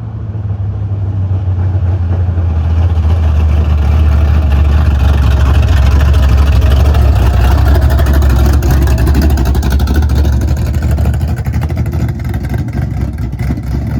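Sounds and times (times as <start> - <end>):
car engine running: 0.2 - 13.9.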